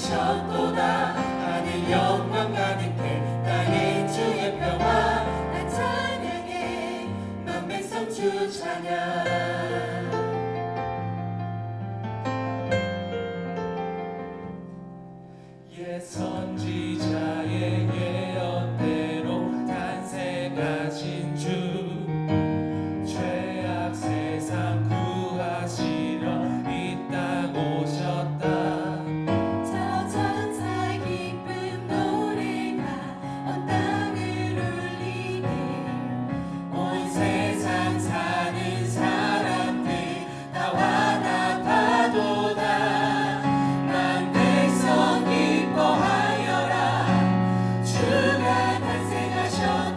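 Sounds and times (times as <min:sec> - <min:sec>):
choir singing gospel song: 0:00.0 - 0:10.6, 0:15.6 - 0:22.2, 0:23.0 - 0:49.9
piano and band accompaniment: 0:00.0 - 0:49.9.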